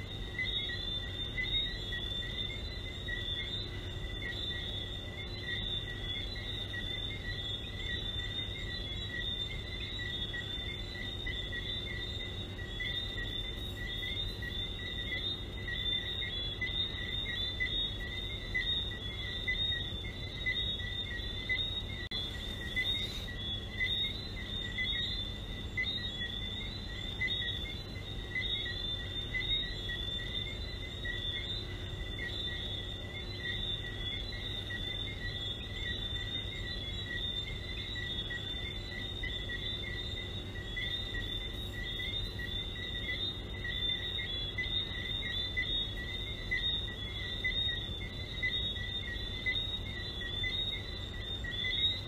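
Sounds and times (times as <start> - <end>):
frogs chirping: 0.0 - 52.0.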